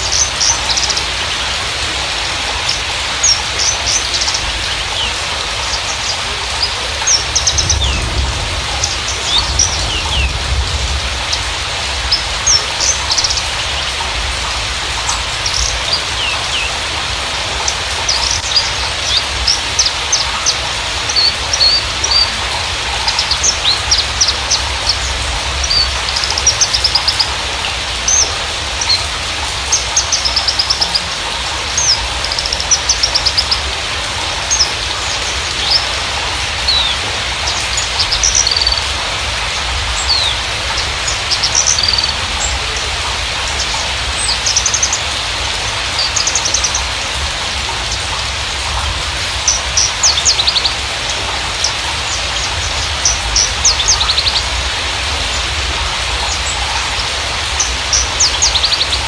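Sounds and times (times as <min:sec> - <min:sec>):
bird chirps and trills: 0:00.0 - 0:59.0
steady hiss: 0:00.0 - 0:59.0.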